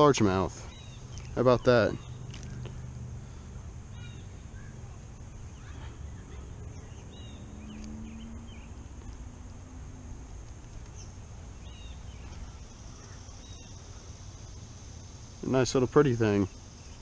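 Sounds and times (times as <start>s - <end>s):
birds chirping: 0.0s - 17.0s
high-pitched insect drone: 0.6s - 17.0s.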